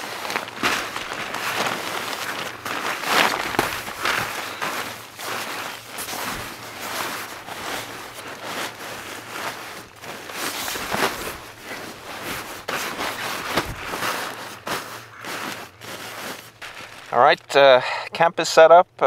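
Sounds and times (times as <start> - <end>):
nylon sleeping bag rustling: 0.0 - 17.3.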